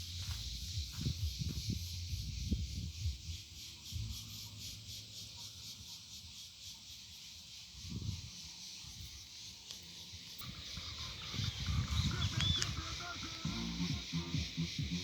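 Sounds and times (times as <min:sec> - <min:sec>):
insects chorus pulsing: 0:00.0 - 0:15.0.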